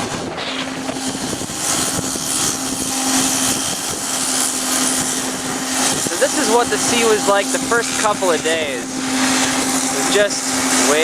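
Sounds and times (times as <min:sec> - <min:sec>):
even rushing noise: 0:00.0 - 0:11.0
ship engines droning: 0:00.0 - 0:11.0.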